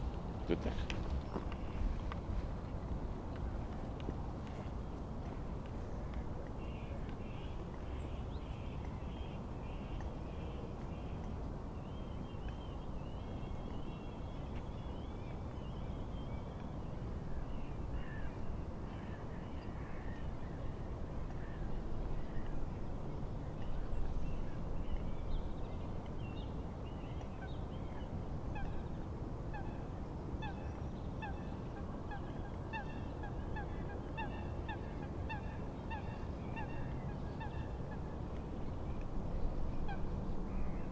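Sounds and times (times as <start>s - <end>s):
wind: 0.0s - 40.9s.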